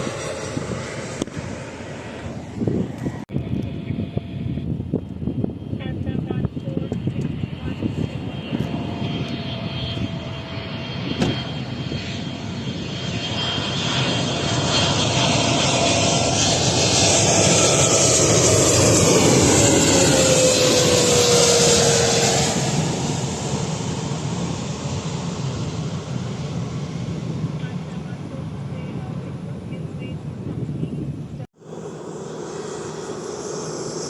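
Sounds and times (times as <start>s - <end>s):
airliner passing over: 0.0s - 34.0s.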